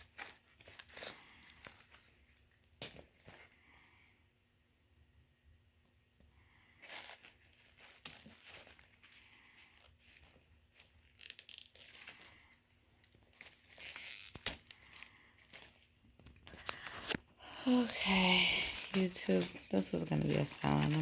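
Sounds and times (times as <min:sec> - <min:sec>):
packaging crinkling and tearing: 0:00.0 - 0:03.5, 0:06.8 - 0:21.0.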